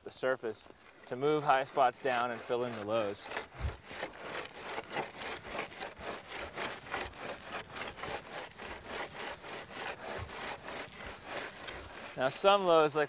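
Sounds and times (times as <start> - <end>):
board scraping across gravel: 0.0 - 13.0.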